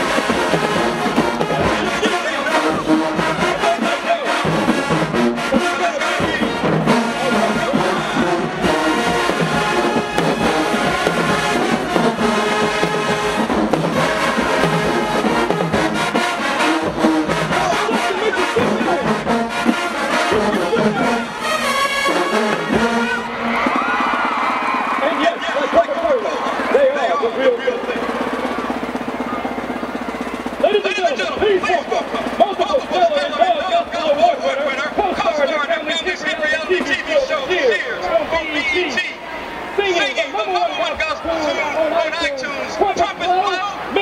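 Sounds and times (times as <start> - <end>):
marching band playing: 0.0 - 44.0.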